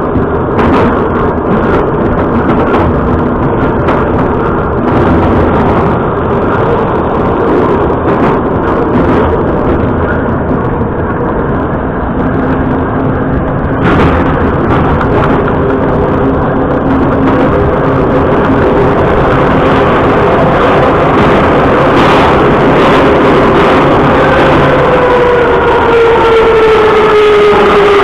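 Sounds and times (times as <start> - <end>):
train rumbling through tunnel: 0.0 - 28.0.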